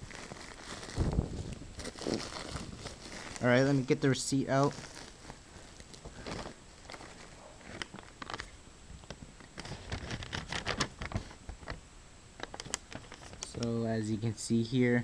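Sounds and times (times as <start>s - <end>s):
paper and packaging rustling: 0.0s - 11.8s, 12.4s - 13.7s.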